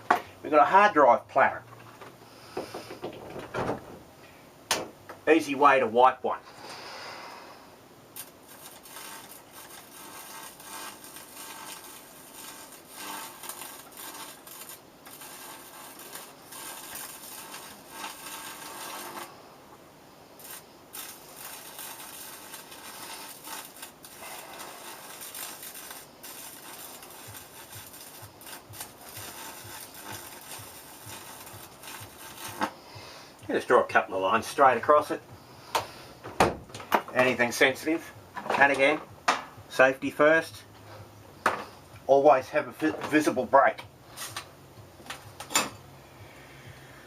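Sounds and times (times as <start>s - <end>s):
electric arc crackling and buzzing: 0.0s - 47.0s.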